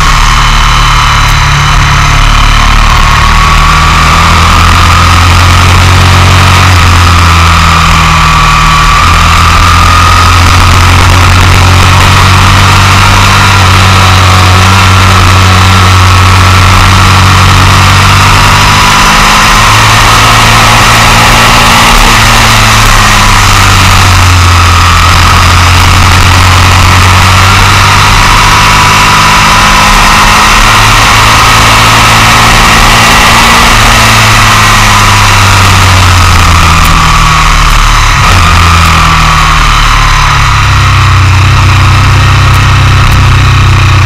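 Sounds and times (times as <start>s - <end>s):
motorcycle engine at speed: 0.0s - 44.0s.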